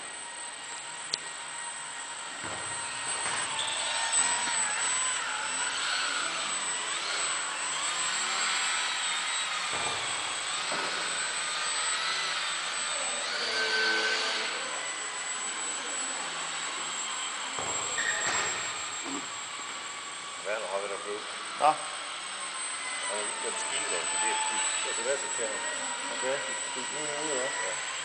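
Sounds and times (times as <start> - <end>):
model plane motor whining: 0.0 - 28.0.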